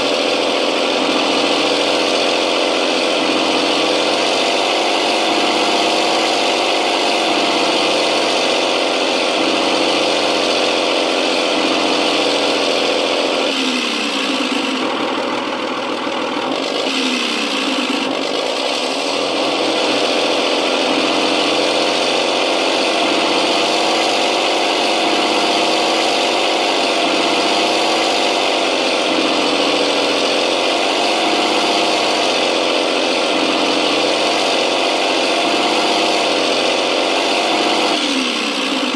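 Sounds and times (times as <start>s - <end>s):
simulated tank engine running: 0.0s - 38.9s.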